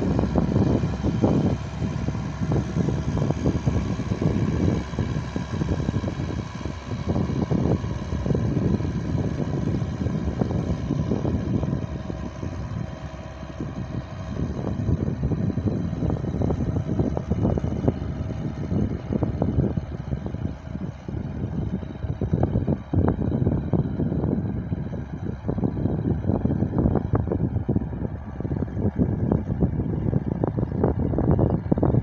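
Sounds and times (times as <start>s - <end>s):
tractor engine running: 0.0s - 32.0s
wind rumbling on microphone: 0.0s - 32.0s.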